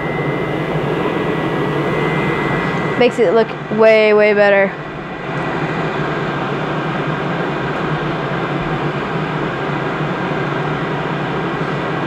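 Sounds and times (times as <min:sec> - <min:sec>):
duct fan rushing air: 0:00.0 - 0:12.0.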